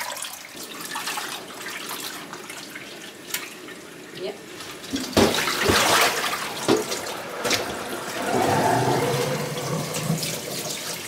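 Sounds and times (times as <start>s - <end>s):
tap water running into sink: 0.0s - 8.6s, 9.2s - 11.0s.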